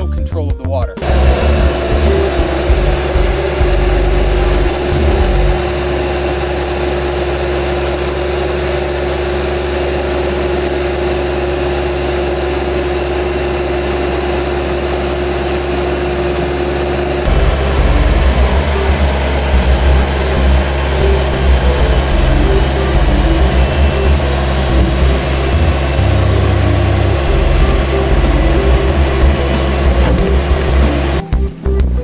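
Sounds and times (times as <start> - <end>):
engine running: 1.0 - 32.0.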